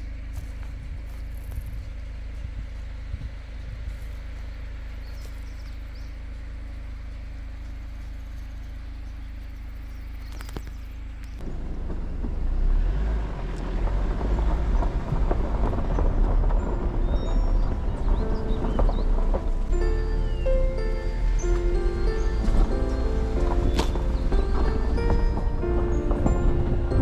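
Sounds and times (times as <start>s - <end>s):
car engine driving: 0.0s - 27.0s
tyres crunching on rough road: 0.0s - 27.0s.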